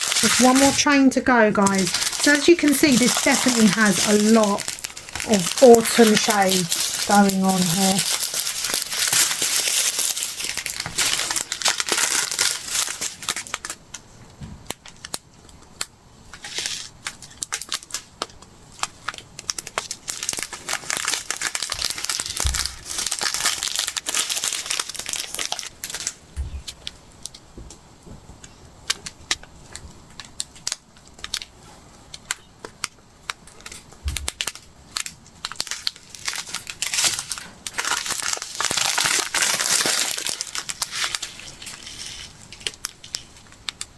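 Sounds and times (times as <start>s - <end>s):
plastic bags crinkling: 0.0s - 13.9s, 16.3s - 27.4s, 32.9s - 43.9s.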